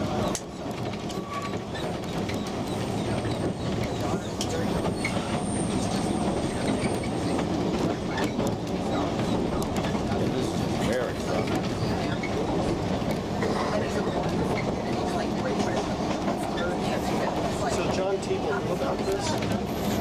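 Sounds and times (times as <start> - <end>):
clicks of train wheels: 0.0 - 20.0
train wheels rumbling on rails: 0.0 - 20.0.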